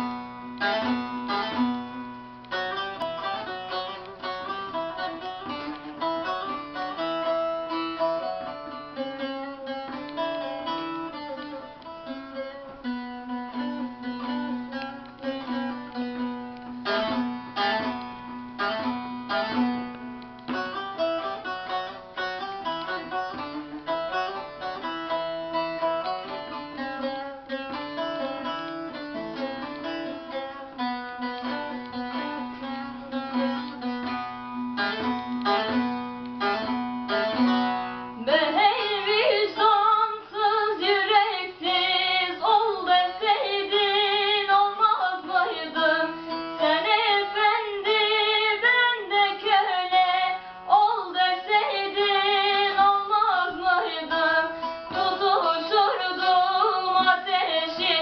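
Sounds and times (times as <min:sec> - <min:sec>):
plucked string melody: 0:00.0 - 0:58.0.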